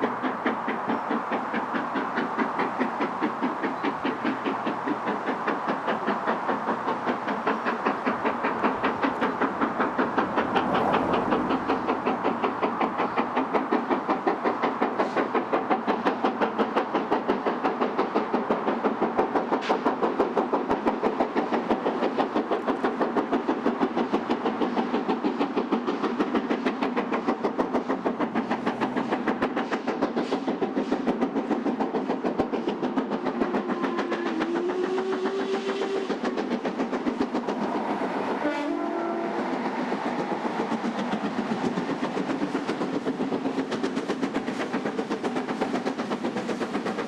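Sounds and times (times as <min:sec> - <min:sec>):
steam locomotive exhaust beats: 0:00.0 - 0:47.0.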